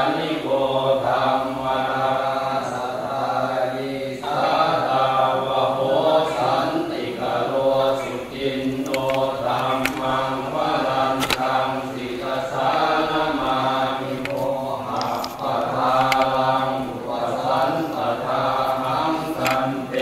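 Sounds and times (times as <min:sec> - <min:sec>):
group chanting in unison: 0:00.0 - 0:20.0.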